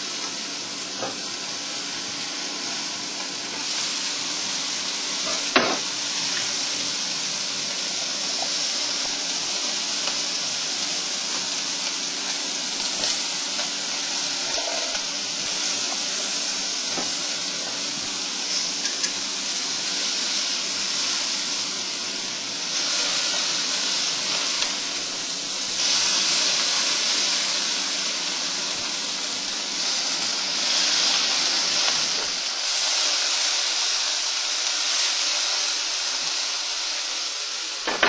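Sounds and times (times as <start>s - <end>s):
steak sizzling on a grill: 0.0s - 38.0s.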